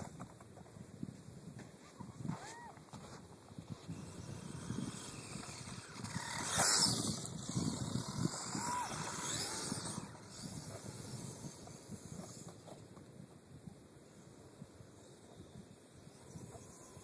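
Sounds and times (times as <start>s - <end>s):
rc truck motor and tyres on sand: 0.0s - 17.0s.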